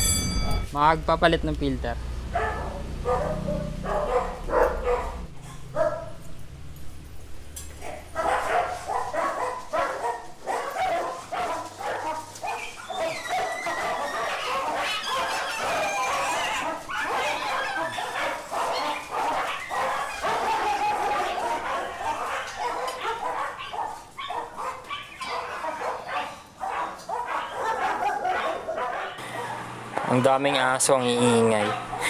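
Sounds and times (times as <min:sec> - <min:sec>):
many dogs barking and yipping: 0:02.3 - 0:06.4, 0:07.7 - 0:32.0.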